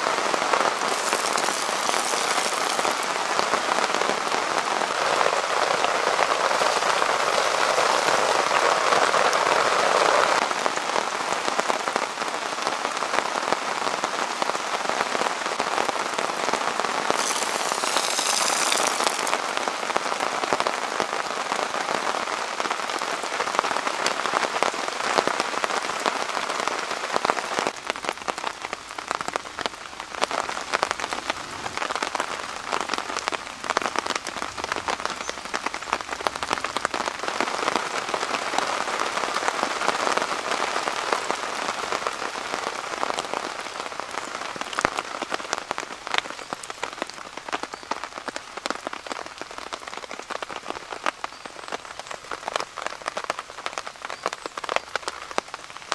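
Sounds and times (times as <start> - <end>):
heavy rain on canvas tarp: 0.0 - 55.9.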